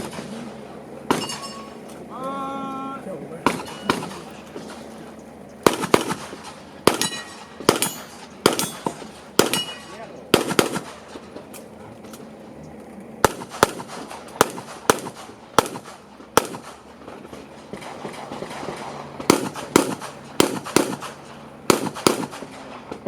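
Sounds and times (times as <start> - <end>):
pistol shots: 0.0 - 2.0, 3.4 - 5.0, 5.6 - 11.7, 13.2 - 23.0.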